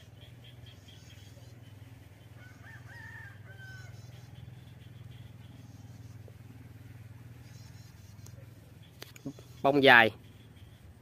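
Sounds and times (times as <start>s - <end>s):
drawn-out bird call: 0.0s - 11.0s.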